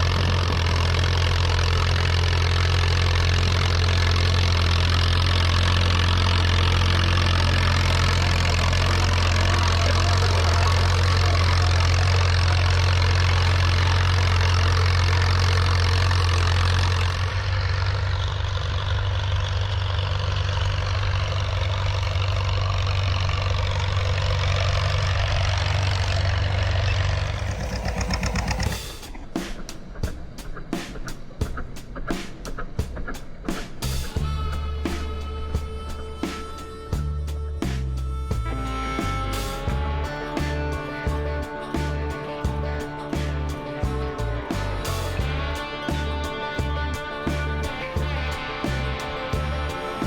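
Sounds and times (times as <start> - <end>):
tractor engine running: 0.0 - 29.2, 34.1 - 50.0.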